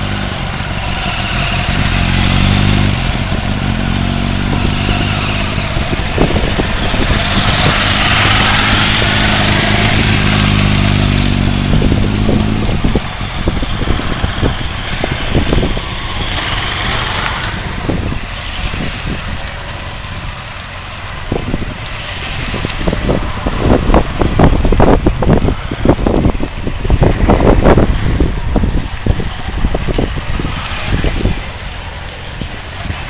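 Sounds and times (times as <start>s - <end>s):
fainter motorcycle engines: 0.0s - 33.0s
motorcycle engine passing: 0.0s - 33.0s
wind buffeting microphone: 0.0s - 33.0s.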